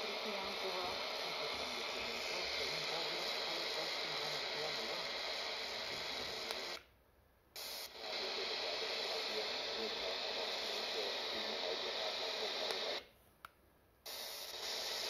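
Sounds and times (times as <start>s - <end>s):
radio static hiss: 0.0s - 6.9s, 7.6s - 13.1s, 14.1s - 15.0s.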